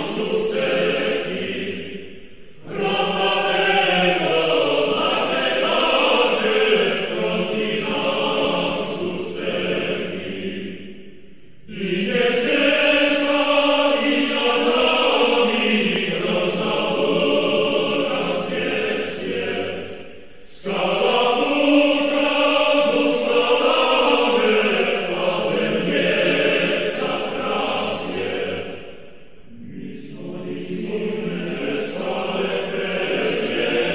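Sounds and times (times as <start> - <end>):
choir singing slow chant: 0.0 - 33.9.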